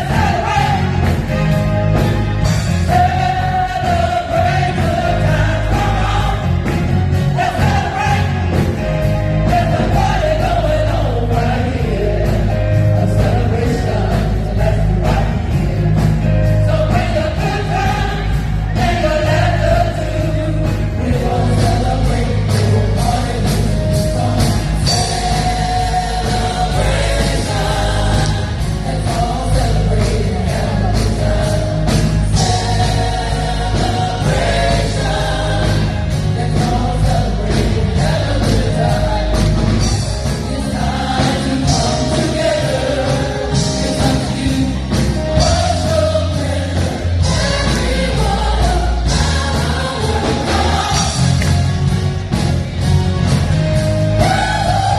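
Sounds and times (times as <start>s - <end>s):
bass line: 0.0s - 54.9s
drums: 0.0s - 54.9s
gospel choir singing: 0.0s - 54.9s.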